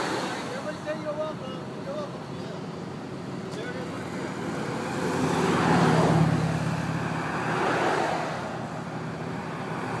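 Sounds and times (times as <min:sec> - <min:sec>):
vehicles driving past: 0:00.0 - 0:10.0.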